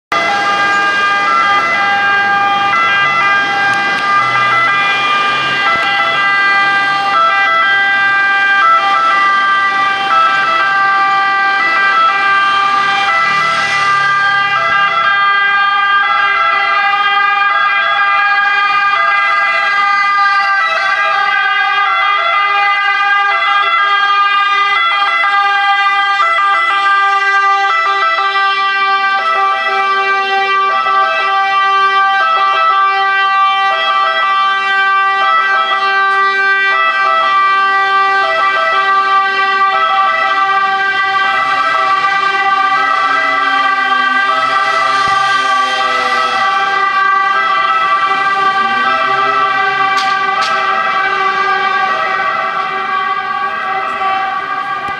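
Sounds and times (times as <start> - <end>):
two-tone fire engine siren: 0.1 - 54.9.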